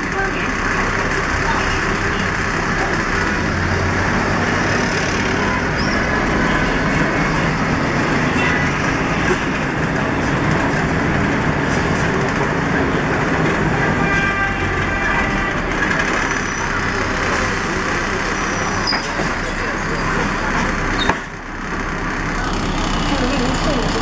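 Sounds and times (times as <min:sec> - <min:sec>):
bus engine drone: 0:00.0 - 0:24.0
road and traffic noise: 0:00.0 - 0:24.0.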